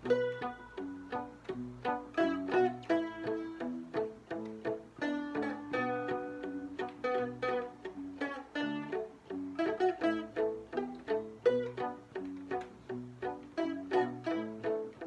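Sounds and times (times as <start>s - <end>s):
dulcimers and guitar playing: 0.0s - 15.0s.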